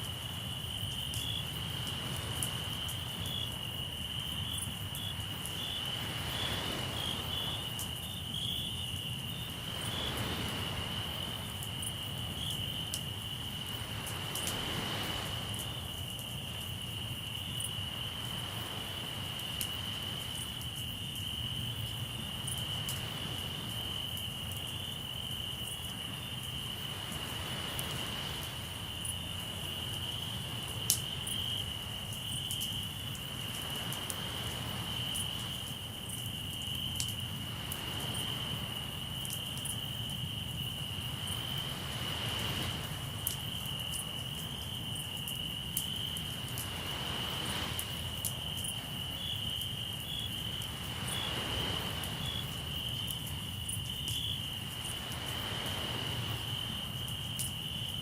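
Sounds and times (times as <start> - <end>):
crickets trilling: 0.0 - 58.0
waves washing ashore: 0.0 - 58.0.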